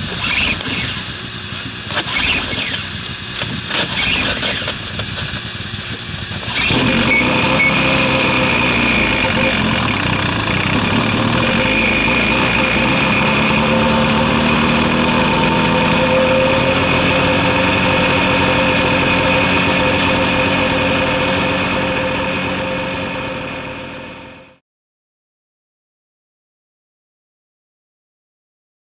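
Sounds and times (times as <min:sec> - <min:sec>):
snowmobile engine idling: 0:00.0 - 0:24.6.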